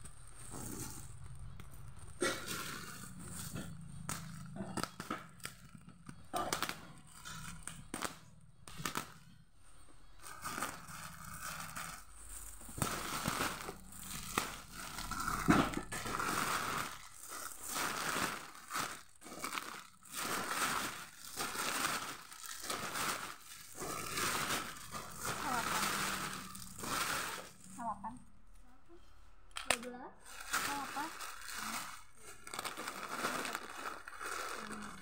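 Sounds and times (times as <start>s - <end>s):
plastic wrapping crinkling: 0.0s - 9.2s, 10.1s - 28.2s, 29.7s - 35.0s.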